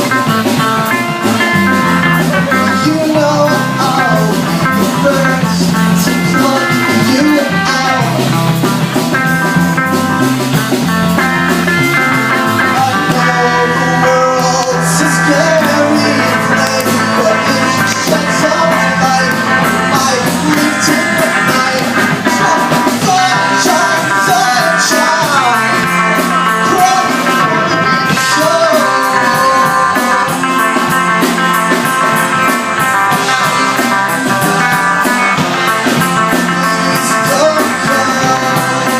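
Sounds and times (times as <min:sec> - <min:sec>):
electric guitar: 0:00.0 - 0:38.9
rock music: 0:00.0 - 0:38.9.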